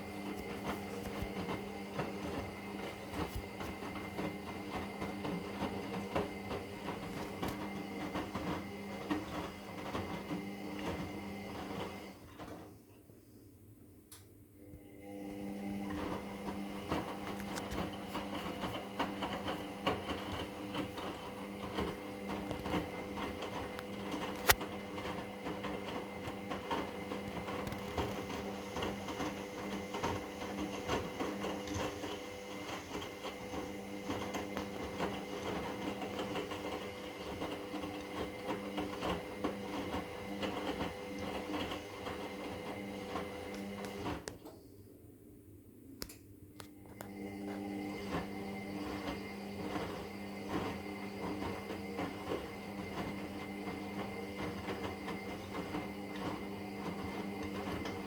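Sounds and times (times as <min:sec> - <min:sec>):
washing machine running: 0:00.0 - 0:12.9, 0:14.6 - 0:44.4, 0:46.8 - 0:58.0.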